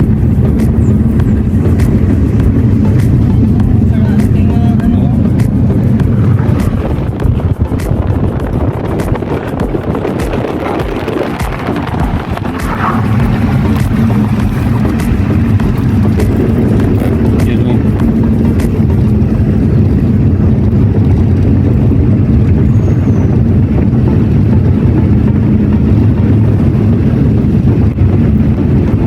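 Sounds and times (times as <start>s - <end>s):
road noise rumbling: 0.0s - 29.0s
vehicle engine humming: 0.0s - 29.0s.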